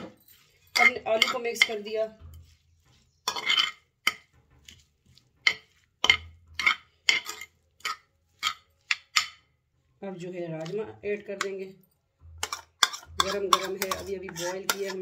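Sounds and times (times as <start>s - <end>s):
metal spoon scraping clay bowl: 0.0s - 15.0s.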